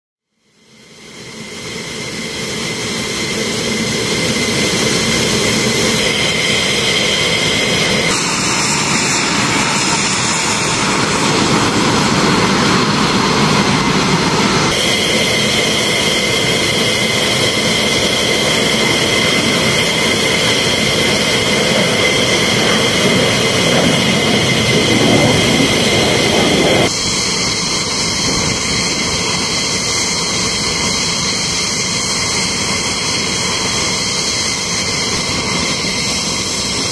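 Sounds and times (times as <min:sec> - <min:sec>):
jet engines running: 0:00.3 - 0:36.9.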